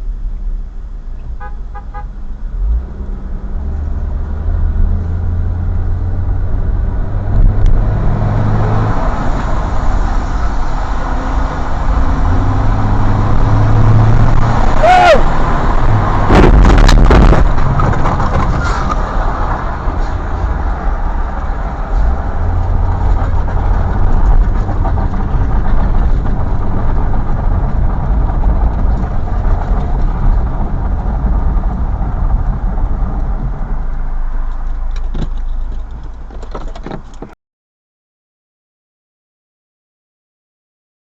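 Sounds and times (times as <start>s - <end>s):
car driving rumble: 0.0s - 37.4s.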